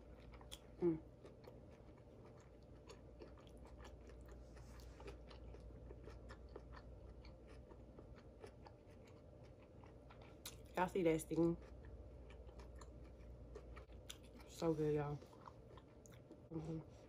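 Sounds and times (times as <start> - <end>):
close-up chewing: 0.0 - 17.0
low steady hum: 0.0 - 17.0.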